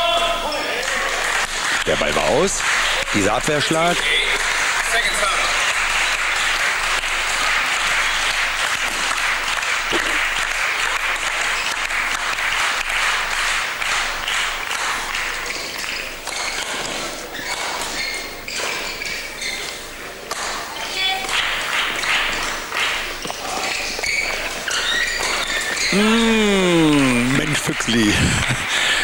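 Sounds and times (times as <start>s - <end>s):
crowd applauding: 0.0s - 29.0s.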